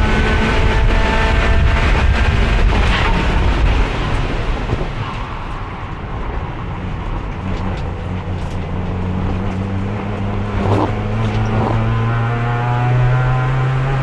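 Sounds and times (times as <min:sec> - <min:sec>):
race car engine pulling: 0:00.0 - 0:14.0.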